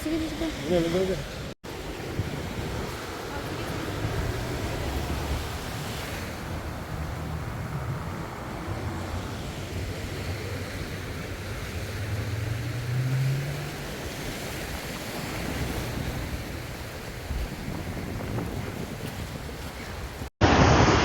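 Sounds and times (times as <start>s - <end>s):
surf rushing: 0.0s - 21.0s
wind buffeting microphone: 1.2s - 20.3s.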